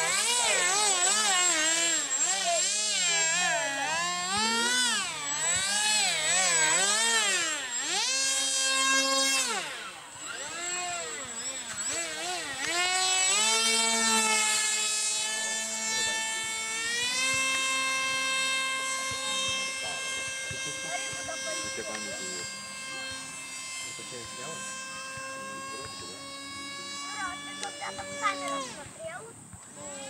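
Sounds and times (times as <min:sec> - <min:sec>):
model jet motor whining: 0:00.0 - 0:30.0.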